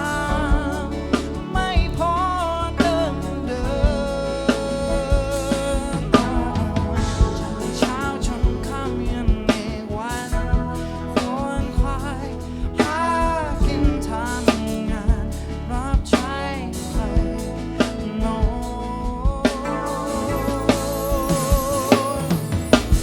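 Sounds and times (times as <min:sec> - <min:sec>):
lead vocal singing: 0:00.0 - 0:23.0
live band playing: 0:00.0 - 0:23.0.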